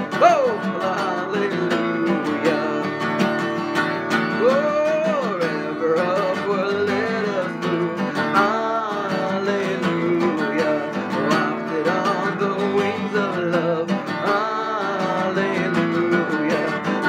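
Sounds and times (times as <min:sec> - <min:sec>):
acoustic guitar strumming: 0:00.0 - 0:17.0
person singing: 0:00.0 - 0:17.0.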